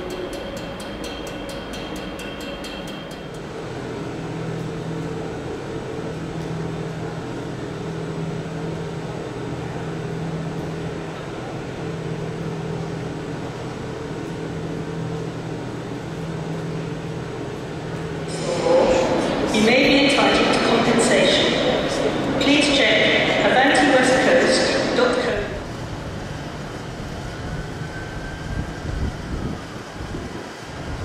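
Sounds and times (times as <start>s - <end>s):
train mechanical hum: 0.0s - 31.0s.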